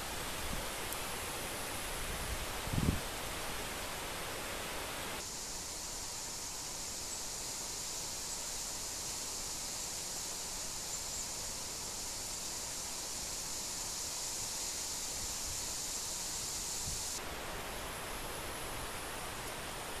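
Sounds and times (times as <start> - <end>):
steady high hiss: 0.0 - 20.0
wind rustling leaves: 0.0 - 20.0.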